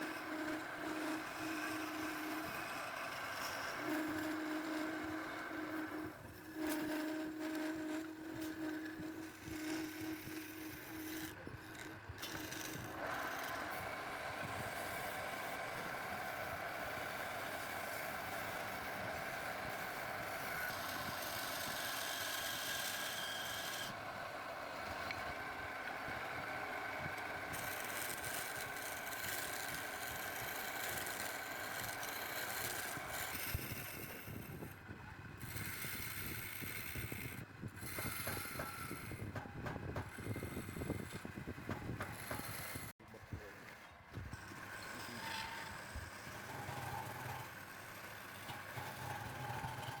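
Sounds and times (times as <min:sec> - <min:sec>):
wood lathe running: 0:00.0 - 0:43.6, 0:44.4 - 0:50.0.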